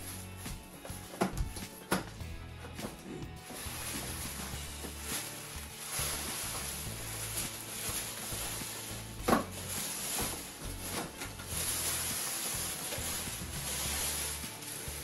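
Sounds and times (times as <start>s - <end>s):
cardboard boxes rustling: 2.8s - 15.0s.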